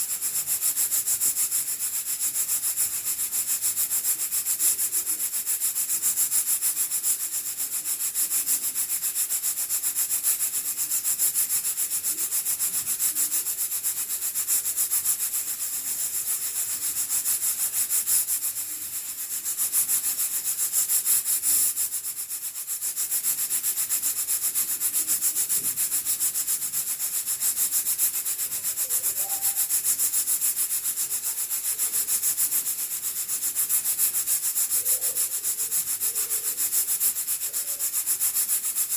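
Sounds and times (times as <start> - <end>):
pressure cooker hissing steam: 0.0 - 38.9.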